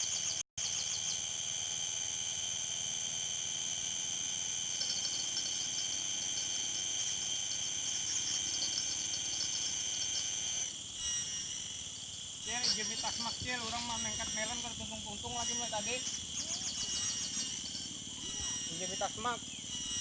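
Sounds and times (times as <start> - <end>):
insects trilling: 0.0 - 20.0
rapid insect chirping: 0.0 - 20.0.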